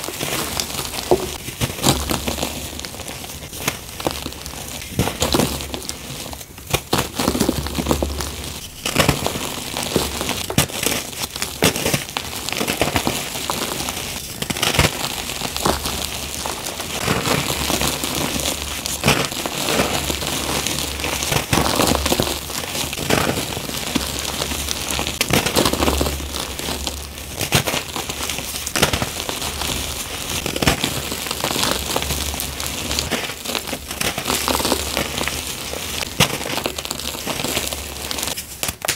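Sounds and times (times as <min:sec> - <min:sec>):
chalk crunching and snapping: 0:00.0 - 0:38.9.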